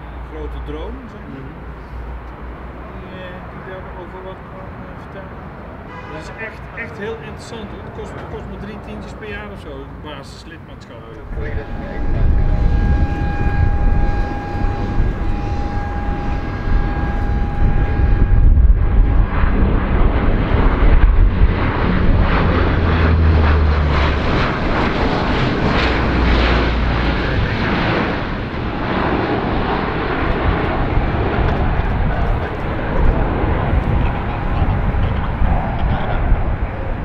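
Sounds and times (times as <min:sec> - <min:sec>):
turboprop aircraft engines droning: 0:00.0 - 0:37.0.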